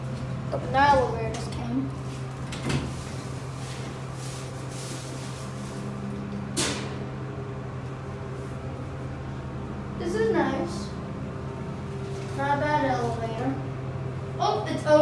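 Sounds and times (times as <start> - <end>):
elevator hum: 0.0 - 15.0.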